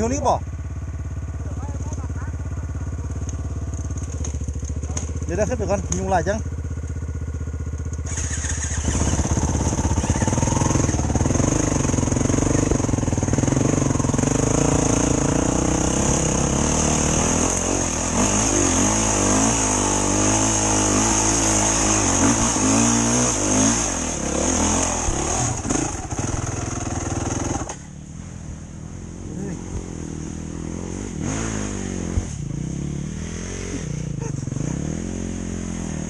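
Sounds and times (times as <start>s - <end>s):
dirt bike engine revving: 0.0s - 28.0s, 29.0s - 36.0s.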